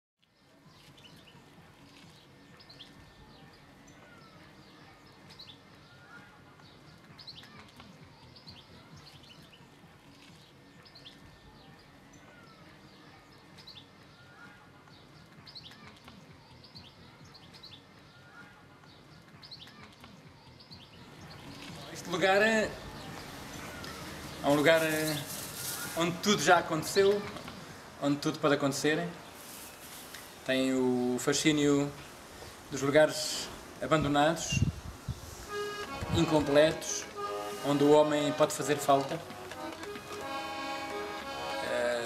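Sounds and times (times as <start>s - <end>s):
low background noise: 0.2s - 42.0s
small birds chirping: 0.2s - 42.0s.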